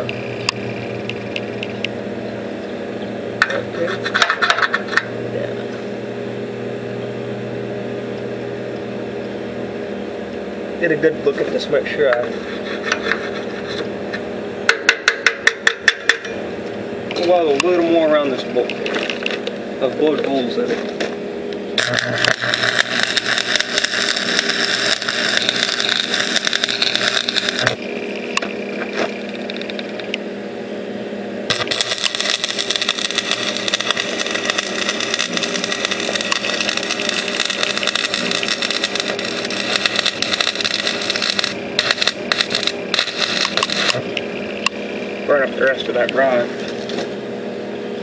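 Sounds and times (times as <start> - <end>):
welding arc crackling and sizzling: 0.0 - 2.0, 3.3 - 6.0, 10.2 - 16.3, 17.1 - 47.3
steady hum: 0.0 - 48.0.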